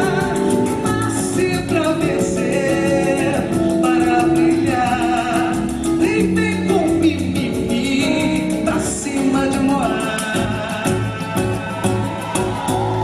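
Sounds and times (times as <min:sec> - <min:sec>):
sliding vocal lines: 0:00.0 - 0:12.6
samba band playing: 0:00.0 - 0:13.0.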